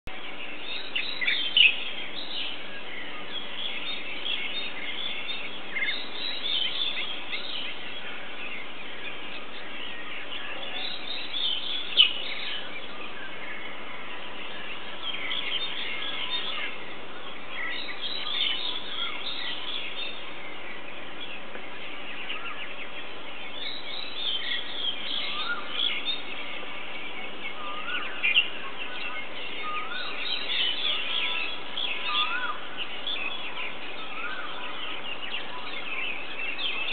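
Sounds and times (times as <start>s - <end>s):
background noise: 0.0s - 36.9s
birds chirping and trilling: 0.1s - 36.9s.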